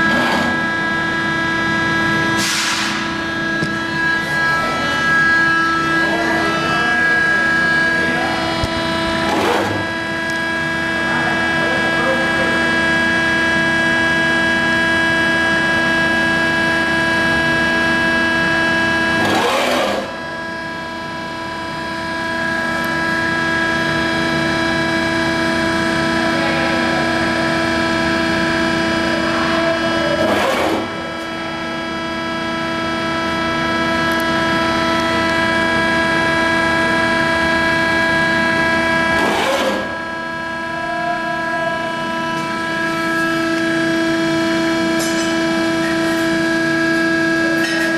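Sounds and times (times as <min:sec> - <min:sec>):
hydraulic pump motor hum: 0:00.0 - 0:47.9.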